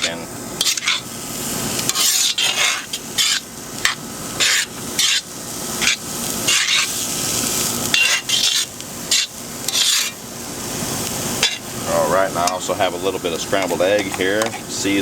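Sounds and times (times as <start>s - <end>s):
utensil scraping and stirring: 0.0s - 1.1s, 1.8s - 10.2s, 11.2s - 14.8s
food sizzling in a wok: 0.0s - 15.0s.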